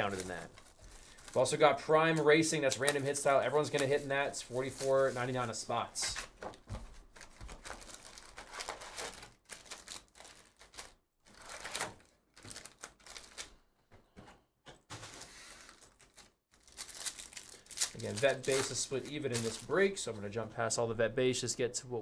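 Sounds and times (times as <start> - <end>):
foil wrappers crinkling: 0.0 - 13.6, 15.0 - 20.0.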